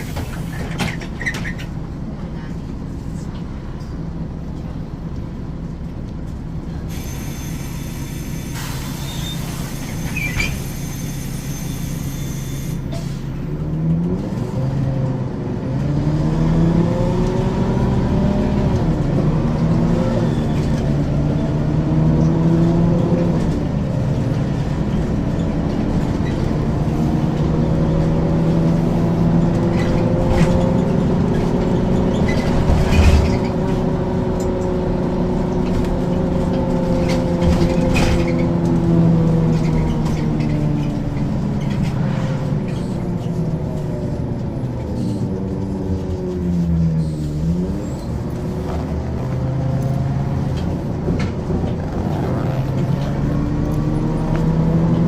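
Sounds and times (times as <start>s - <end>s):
bus diesel engine under load: 0.0s - 55.0s.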